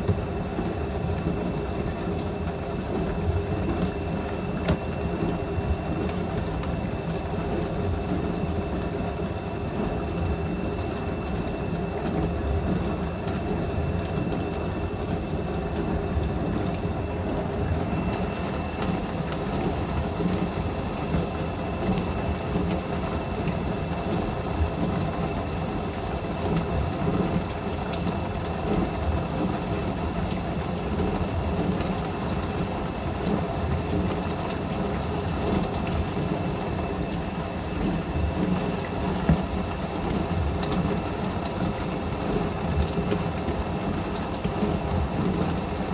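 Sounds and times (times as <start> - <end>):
dishwasher pump hum: 0.0 - 45.9.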